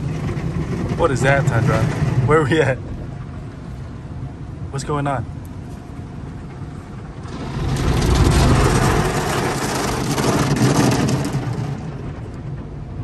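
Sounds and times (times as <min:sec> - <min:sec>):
car wash water spraying on windshield: 0:00.0 - 0:03.6, 0:06.1 - 0:13.0.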